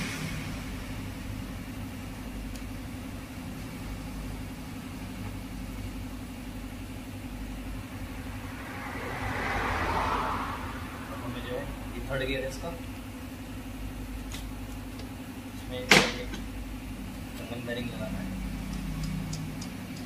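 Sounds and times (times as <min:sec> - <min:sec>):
engine running low hum: 0:00.0 - 0:20.0.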